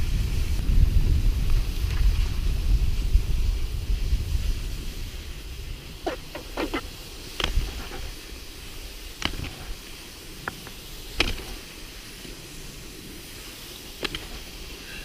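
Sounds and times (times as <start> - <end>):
skis sliding over snow: 0.0 - 15.0
wind rumbling on microphone: 0.0 - 15.0.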